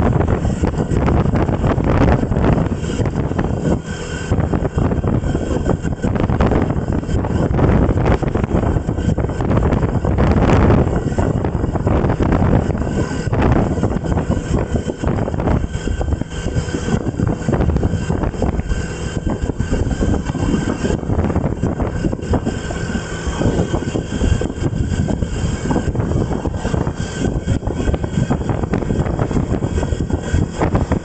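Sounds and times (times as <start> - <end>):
rumble of travel noise: 0.0 - 31.0
wind buffeting microphone: 0.0 - 31.0.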